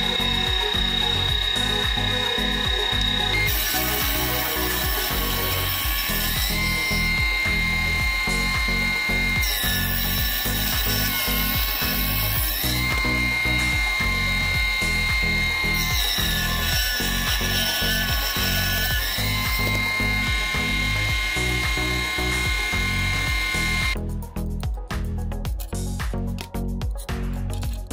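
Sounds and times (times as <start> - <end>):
table saw cutting wood: 0.0 - 24.0
background music: 0.0 - 27.9.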